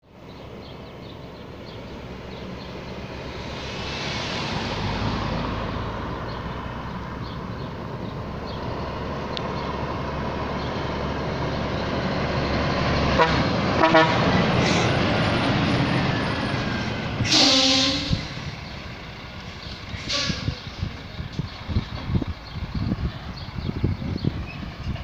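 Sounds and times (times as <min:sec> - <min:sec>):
traffic engine and tyre noise: 0:00.0 - 0:25.0
vehicle passing close: 0:00.4 - 0:25.0.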